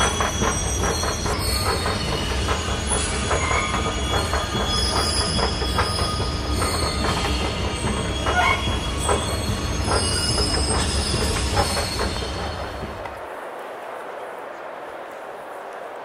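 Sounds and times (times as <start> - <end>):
high wheel squeal: 0.0 - 13.2
wheel and track clicks: 0.0 - 13.2
funicular car rumbling on rails: 0.0 - 16.0.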